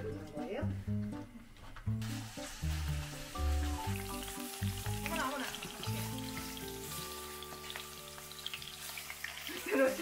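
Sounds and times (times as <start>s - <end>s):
meat sizzling in hot oil: 1.9s - 10.0s.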